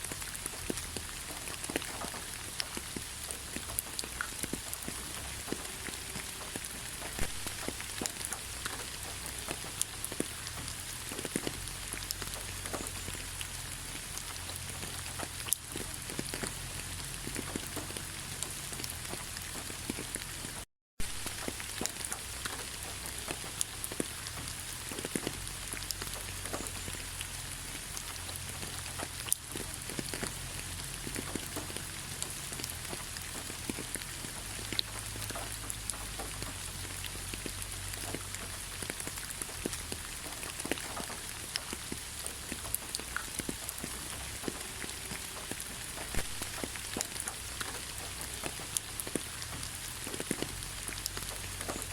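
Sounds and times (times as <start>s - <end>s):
rain falling in forest: 0.0s - 51.9s.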